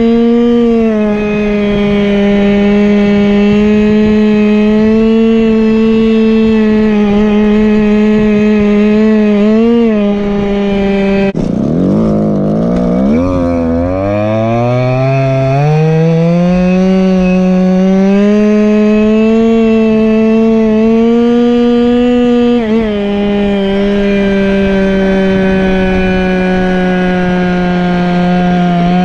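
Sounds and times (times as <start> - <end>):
scooter engine revving: 0.0 - 29.0.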